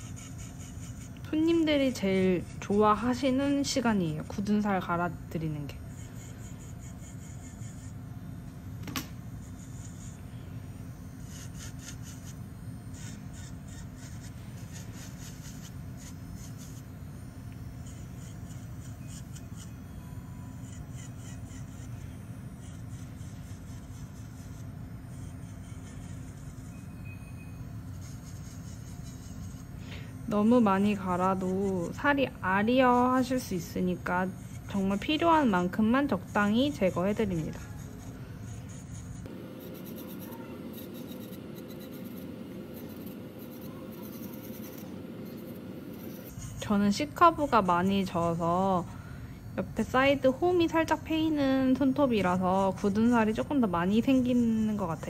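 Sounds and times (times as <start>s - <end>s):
electric nail drill grinding: 0.0s - 55.0s.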